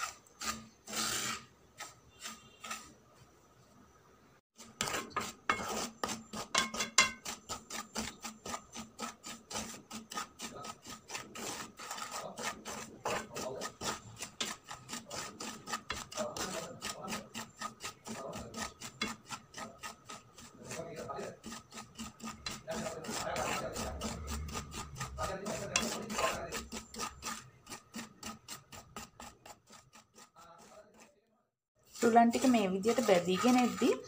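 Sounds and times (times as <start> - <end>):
wooden spoon scraping semolina: 0.0 - 3.5, 4.6 - 34.0.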